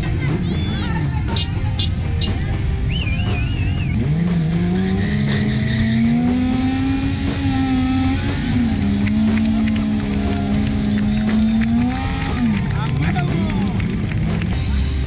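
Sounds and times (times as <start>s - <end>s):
motorcycle engine revving high: 1.0s - 15.0s.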